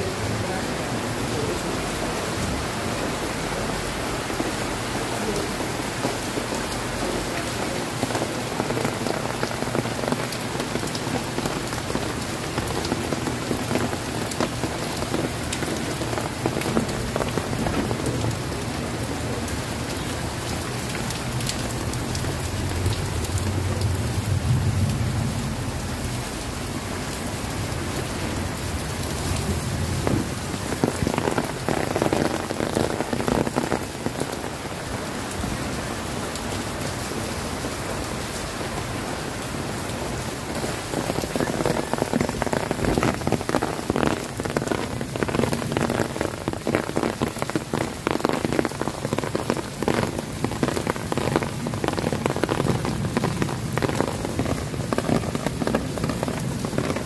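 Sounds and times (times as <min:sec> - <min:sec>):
heavy rain on pavement: 0:00.0 - 0:57.0
raindrops ticking: 0:00.0 - 0:57.0.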